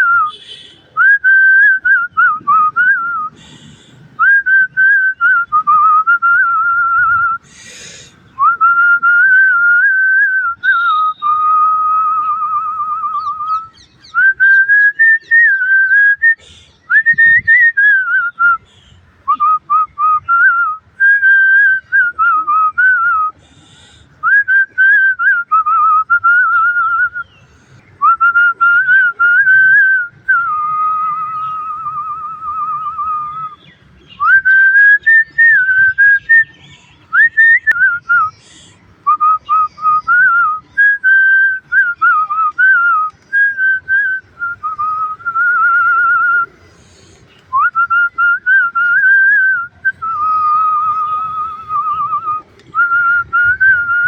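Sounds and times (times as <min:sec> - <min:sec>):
person whistling a tune: 0:00.0 - 0:03.4, 0:04.2 - 0:18.6, 0:19.3 - 0:23.4, 0:28.0 - 0:36.5, 0:37.1 - 0:38.4, 0:39.1 - 0:46.5, 0:47.4 - 0:54.0.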